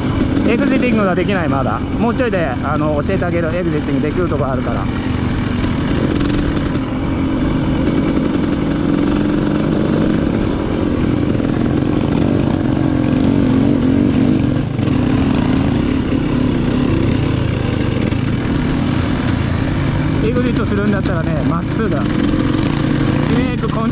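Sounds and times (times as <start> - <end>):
dirt bike engine running: 0.0 - 23.9.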